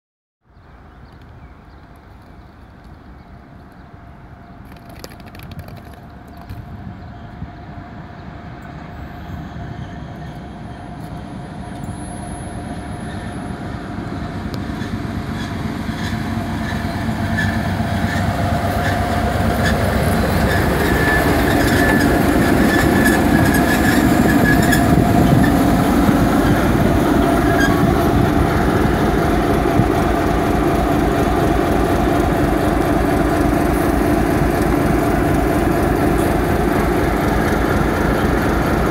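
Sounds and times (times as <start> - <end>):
diesel locomotive engine: 0.5 - 38.9
train running gear: 4.6 - 7.4, 8.5 - 38.9.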